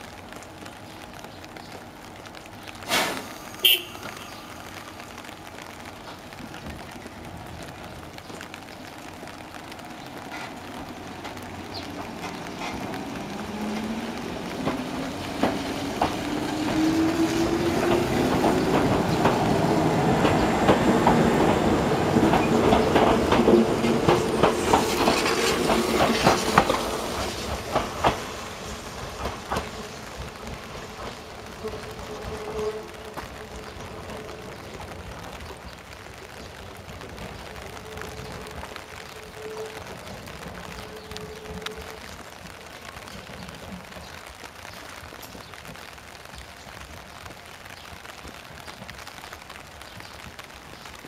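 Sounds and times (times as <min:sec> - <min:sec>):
wheels clicking over rail joints: 0:00.1 - 0:51.0.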